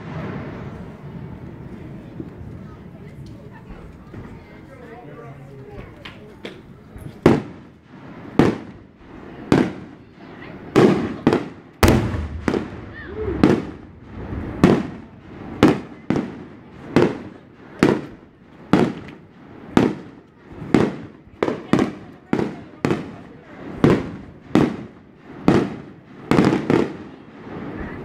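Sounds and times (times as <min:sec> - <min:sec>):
fireworks bursting with echo: 0:00.0 - 0:02.0, 0:06.5 - 0:28.0.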